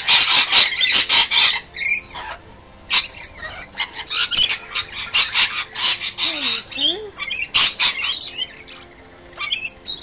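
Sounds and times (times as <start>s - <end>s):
parrots screeching and squawking: 0.0s - 10.0s.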